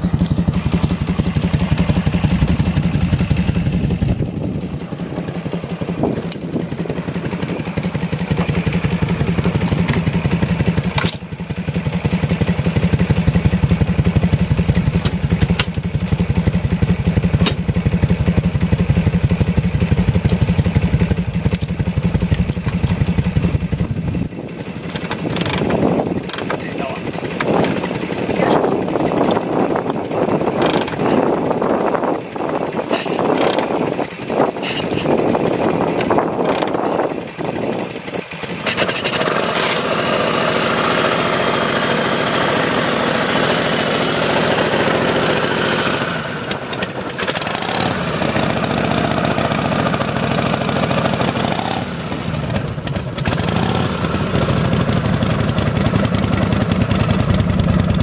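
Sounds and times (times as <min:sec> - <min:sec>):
motorcycle engine idling: 0:00.0 - 0:58.0
motorcycle kick-start attempts: 0:00.0 - 0:58.0.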